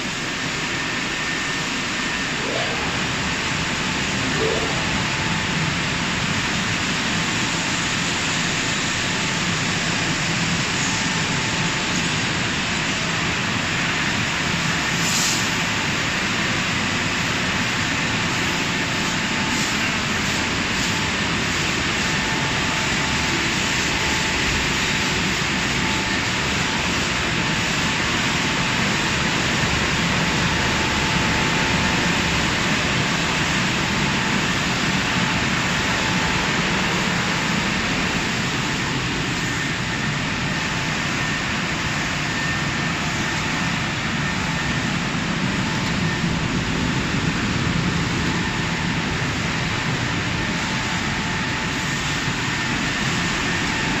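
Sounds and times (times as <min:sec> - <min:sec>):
car wash water spray and motors: 0:00.0 - 0:54.0.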